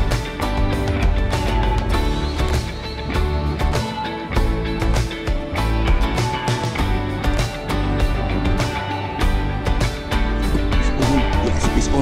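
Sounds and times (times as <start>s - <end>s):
plucked guitar music with beat: 0.0s - 12.0s.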